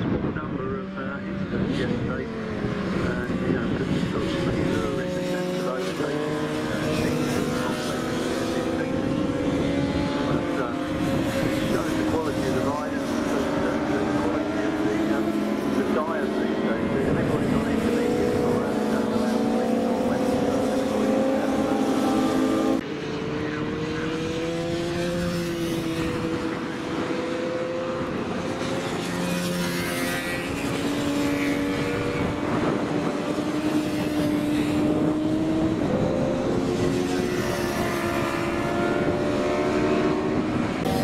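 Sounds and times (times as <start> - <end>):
racing motorcycles at high revs: 0.0 - 41.0.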